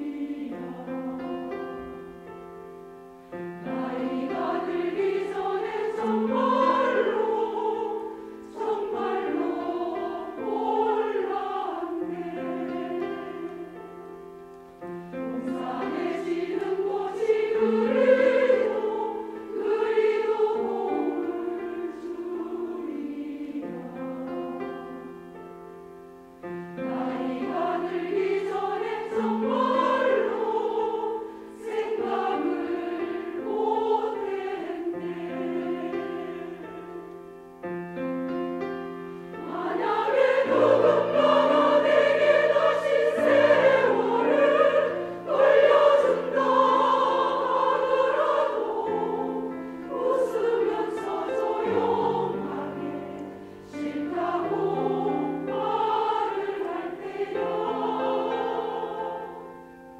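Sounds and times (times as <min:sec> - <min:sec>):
women's choir singing: 0:00.0 - 0:02.2, 0:03.3 - 0:25.4, 0:26.4 - 0:59.9
grand piano accompaniment: 0:00.0 - 0:59.9.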